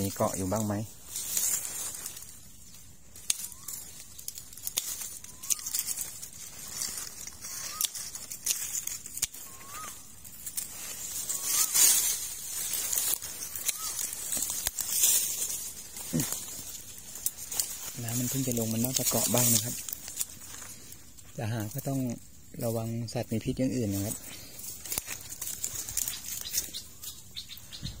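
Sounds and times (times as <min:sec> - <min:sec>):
twigs snapping and crackling: 0:00.0 - 0:27.8
leaves rustling: 0:00.0 - 0:28.0.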